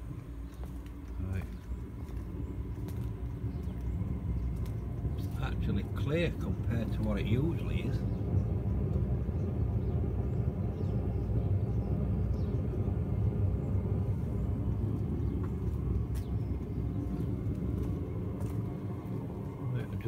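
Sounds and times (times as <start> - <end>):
fan hum: 0.0 - 20.0
heater exhaust low rumble: 0.0 - 20.0.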